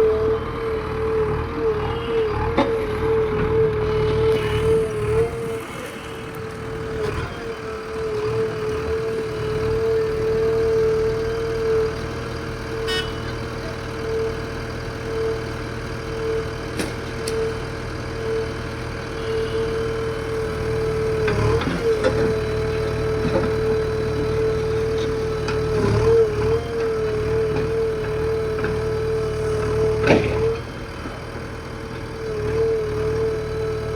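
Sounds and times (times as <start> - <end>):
diesel engine running: 0.0 - 33.9
high engine whine: 0.0 - 33.9.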